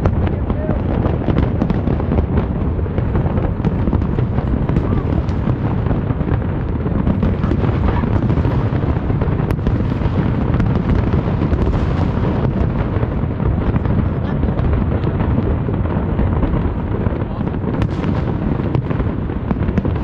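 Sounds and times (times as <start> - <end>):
fireworks booming: 0.0 - 20.0
fireworks sharp cracks: 0.0 - 20.0.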